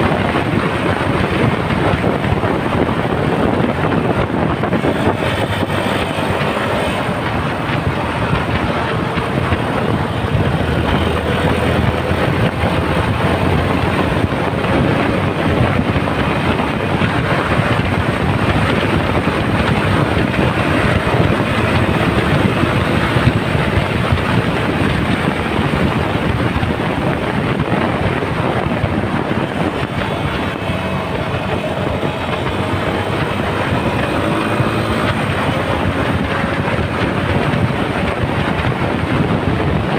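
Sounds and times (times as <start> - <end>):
motorcycle engine running: 0.0 - 39.9
wind over microphone: 0.0 - 39.9.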